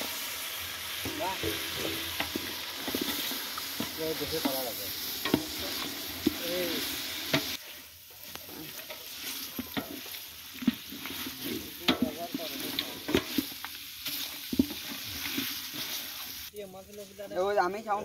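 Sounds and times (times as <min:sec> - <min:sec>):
meat sizzling: 0:00.0 - 0:18.0
wooden spatula scraping metal pot: 0:00.9 - 0:16.5.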